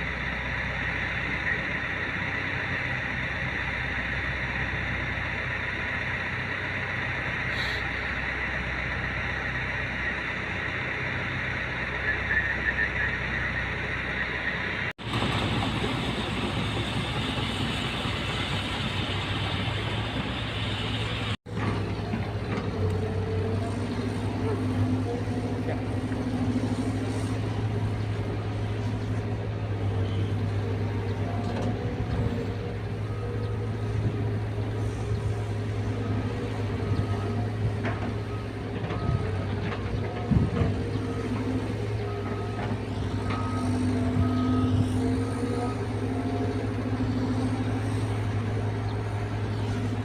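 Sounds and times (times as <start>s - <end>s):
excavator diesel engine droning: 0.0s - 50.0s.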